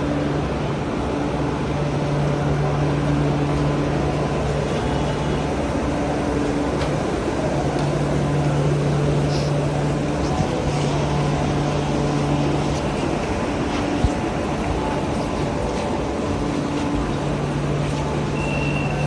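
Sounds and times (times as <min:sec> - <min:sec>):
moving train rumbling: 0:00.0 - 0:19.0.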